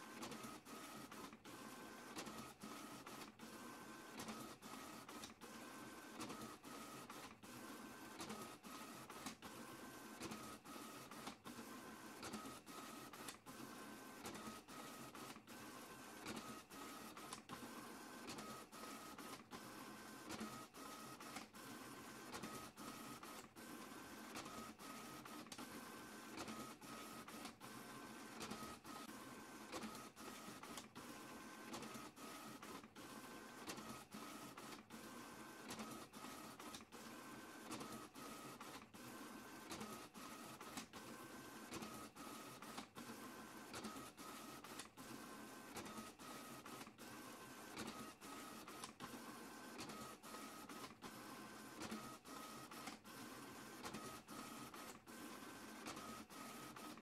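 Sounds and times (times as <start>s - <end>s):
printer mechanical whir: 0.0s - 57.0s.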